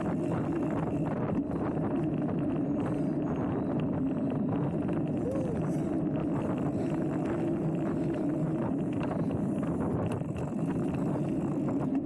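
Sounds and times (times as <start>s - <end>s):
bike clicks and rattles: 0.0s - 12.0s
bike tyres rolling on dirt: 0.0s - 12.0s
wind noise on microphone: 0.0s - 12.0s.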